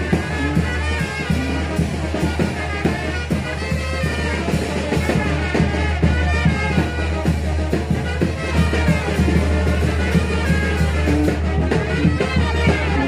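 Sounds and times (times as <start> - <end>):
brass band playing dance music: 0.0 - 13.0
steady drum beat: 0.0 - 13.0
tuba: 0.0 - 13.0.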